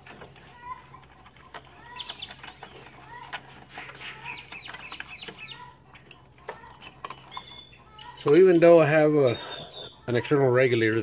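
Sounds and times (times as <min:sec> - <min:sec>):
birds chirping and clucking: 0:00.0 - 0:11.0.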